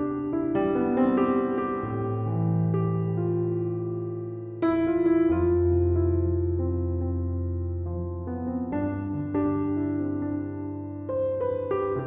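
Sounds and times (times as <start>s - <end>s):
soft keyboard music: 0.0s - 12.0s.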